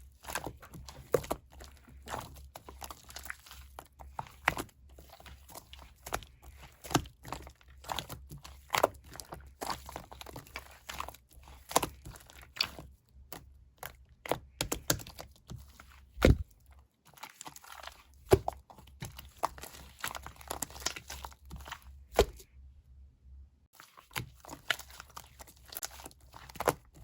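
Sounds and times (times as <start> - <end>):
slime crunching and crackling: 0.0 - 22.5, 23.7 - 27.0.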